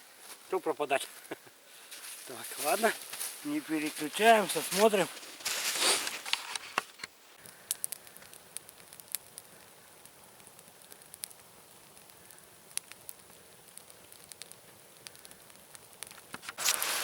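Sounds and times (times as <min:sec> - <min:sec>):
campfire crackling: 0:00.0 - 0:17.0
sharp pops and ticks: 0:01.3 - 0:05.1, 0:06.1 - 0:16.8.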